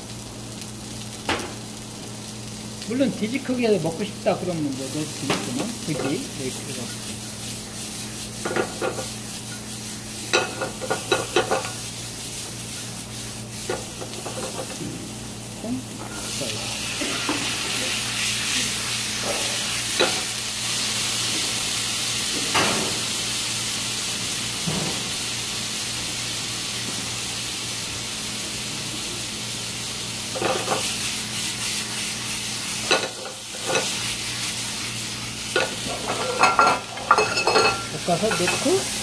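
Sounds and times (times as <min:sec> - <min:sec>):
vegetables sizzling in a frying pan: 0:00.0 - 0:39.0.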